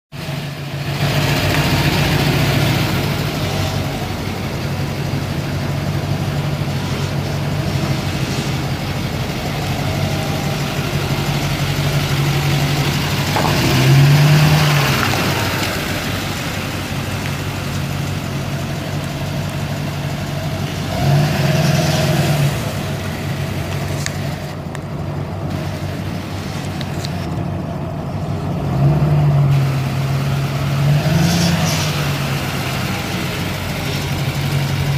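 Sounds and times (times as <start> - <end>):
engine revving: 0.2 - 24.6, 28.3 - 34.9
diesel engine idling: 0.2 - 34.9.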